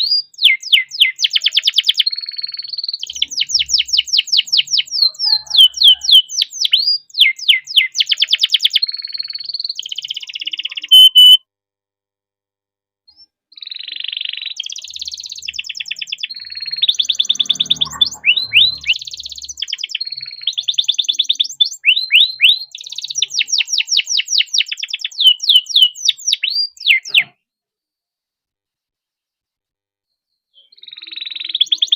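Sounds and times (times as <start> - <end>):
canary singing trills: 0.0 - 11.4, 13.1 - 27.4, 30.5 - 31.9.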